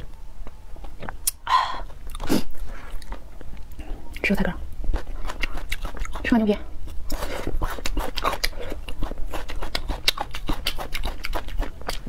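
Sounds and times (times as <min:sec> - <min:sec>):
person chewing crunchy food: 0:00.8 - 0:04.2, 0:04.8 - 0:12.0.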